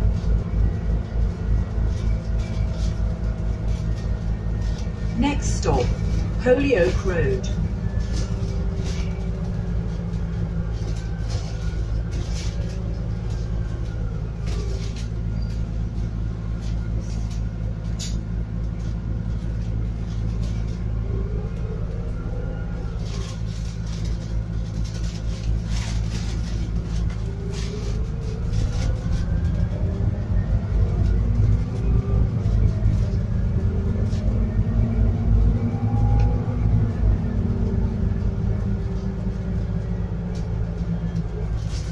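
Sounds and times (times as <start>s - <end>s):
bus engine rumbling: 0.0s - 41.9s.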